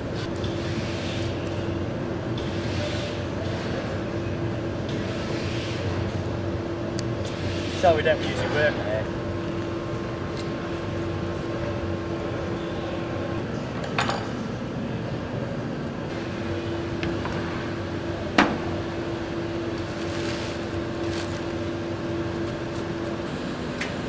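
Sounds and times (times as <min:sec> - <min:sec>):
workshop machinery hum: 0:00.0 - 0:24.0.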